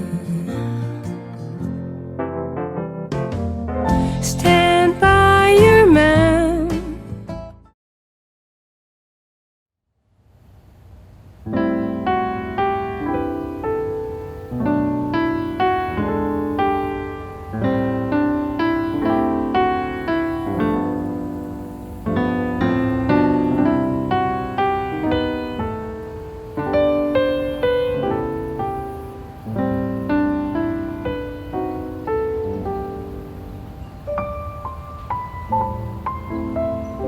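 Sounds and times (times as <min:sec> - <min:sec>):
solo piano music: 0:00.0 - 0:07.0, 0:11.4 - 0:37.0.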